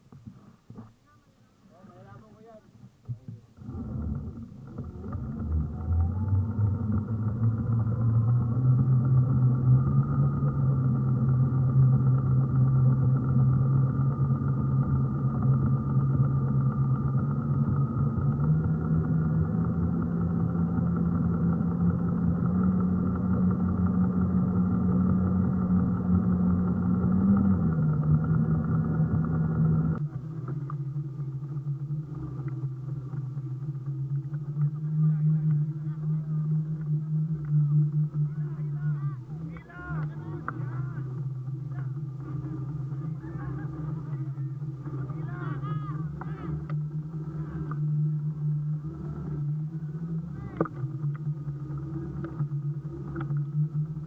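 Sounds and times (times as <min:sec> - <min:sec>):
electric motor whining: 0:03.5 - 0:54.0.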